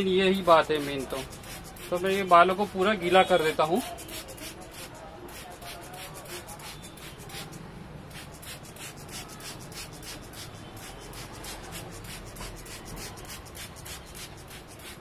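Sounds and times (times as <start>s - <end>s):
scratchy strokes on wet hair: 0.3s - 15.0s.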